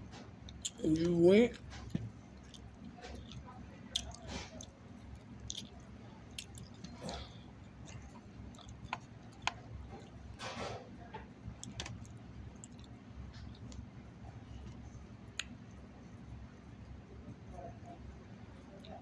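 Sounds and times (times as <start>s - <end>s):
person chewing food: 0.4s - 10.4s, 11.4s - 17.0s.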